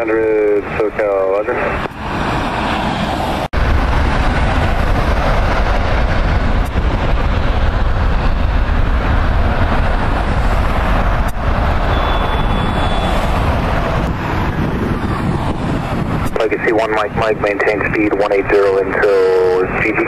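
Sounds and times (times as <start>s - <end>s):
jet airliner taking off: 0.0s - 20.0s.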